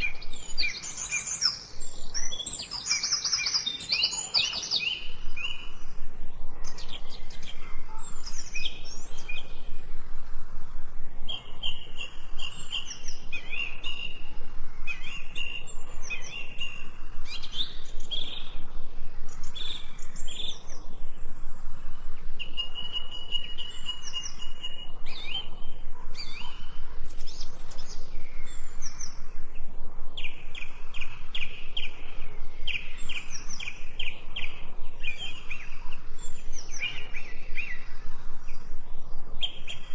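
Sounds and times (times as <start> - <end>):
background hiss: 0.0 - 39.9
songbirds chirping and singing: 0.0 - 39.9.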